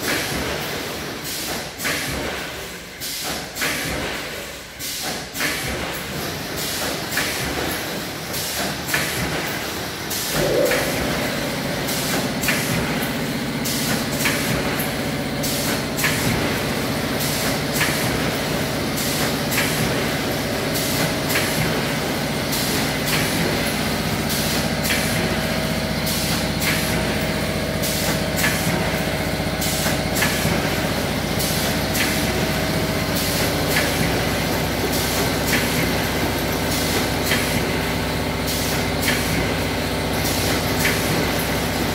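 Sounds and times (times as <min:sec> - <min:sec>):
sharp machine clack: 0:00.0 - 0:36.0
packing machine hum: 0:05.7 - 0:41.9.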